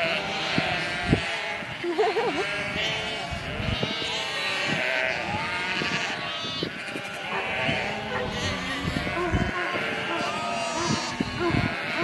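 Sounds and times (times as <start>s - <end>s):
flock of sheep bleating: 0.0s - 12.0s.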